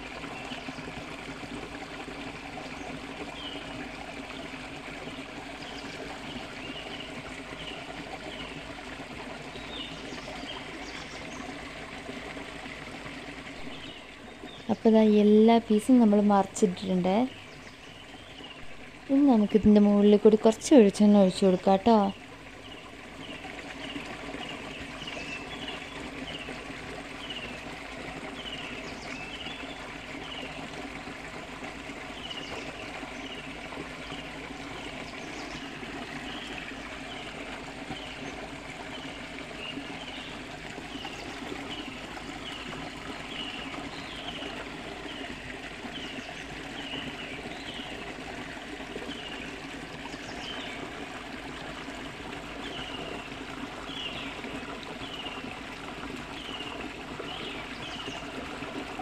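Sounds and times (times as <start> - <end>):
shallow stream trickling: 0.0 - 59.0.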